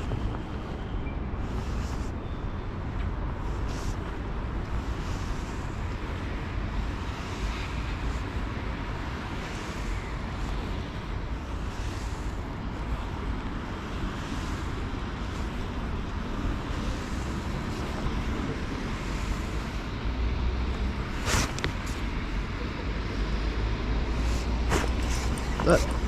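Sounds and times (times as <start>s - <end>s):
city traffic noise: 0.0s - 26.0s
wind rumbling on microphone: 0.0s - 26.0s.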